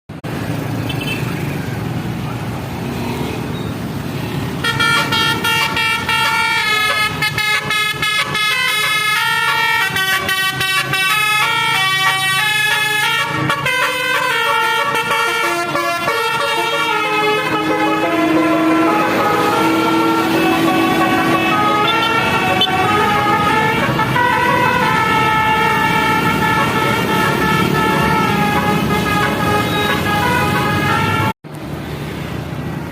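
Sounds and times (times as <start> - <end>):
road noise: 0.1 - 32.9
vehicle engine: 0.1 - 32.9
musical bus air horn: 4.6 - 31.4.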